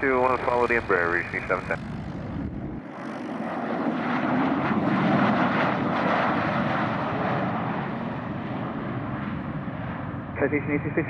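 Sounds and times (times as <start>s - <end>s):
jet engines rushing on landing: 0.0s - 11.0s.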